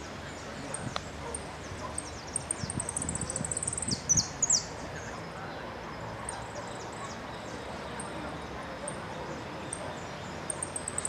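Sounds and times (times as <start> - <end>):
finch singing: 0.0 - 5.3, 6.1 - 11.0.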